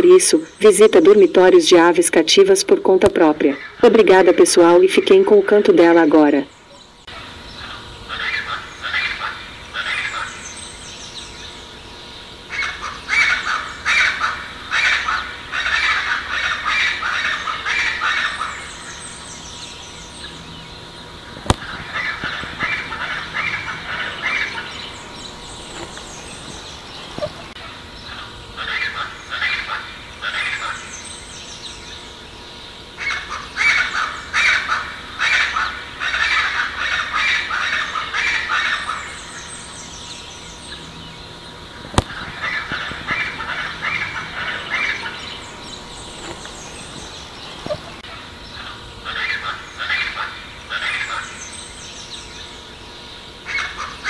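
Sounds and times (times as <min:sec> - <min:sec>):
bird harsh raspy calls: 0:03.4 - 0:54.0.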